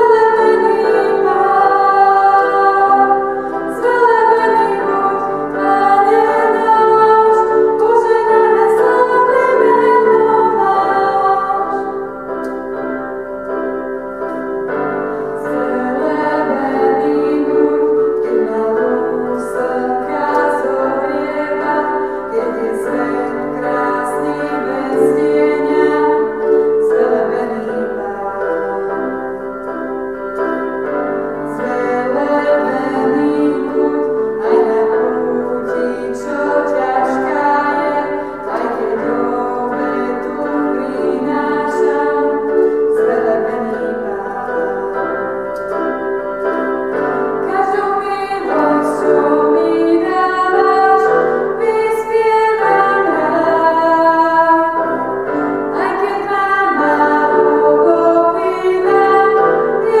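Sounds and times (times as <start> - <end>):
women singing a hymn: 0.0 - 13.1, 14.9 - 29.6, 30.4 - 60.0
piano chords: 0.0 - 60.0.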